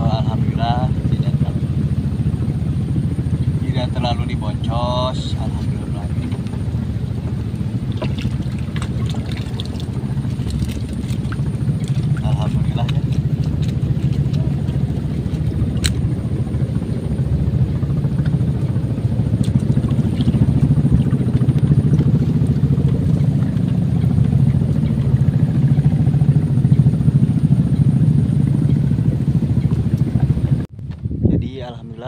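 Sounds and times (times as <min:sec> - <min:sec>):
motor engine droning: 0:00.0 - 0:31.2.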